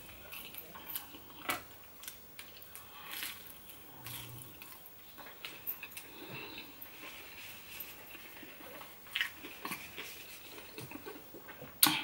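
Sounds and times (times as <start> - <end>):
person chewing fried food: 0.0 - 11.7.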